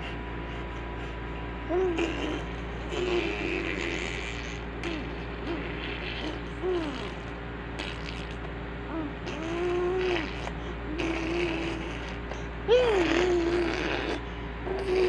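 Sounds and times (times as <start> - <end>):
baby cooing and grunting: 1.7 - 15.0.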